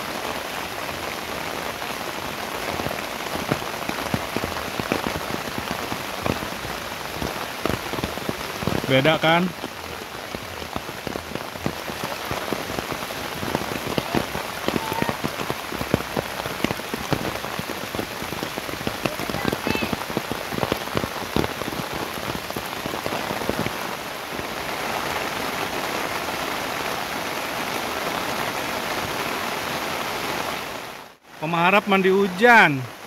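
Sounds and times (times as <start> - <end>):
rain on a tarp: 0.0 - 33.0.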